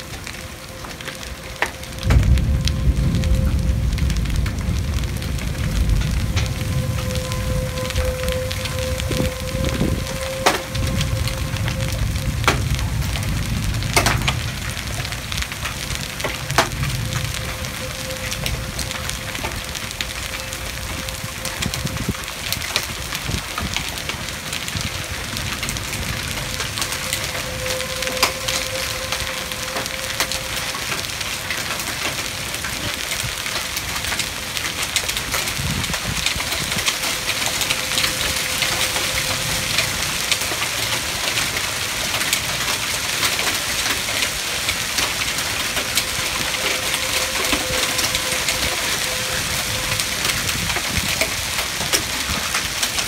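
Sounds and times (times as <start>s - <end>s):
distant tornado siren: 0.0s - 53.0s
hailstones striking: 0.0s - 53.0s
heavy rain: 0.0s - 53.0s.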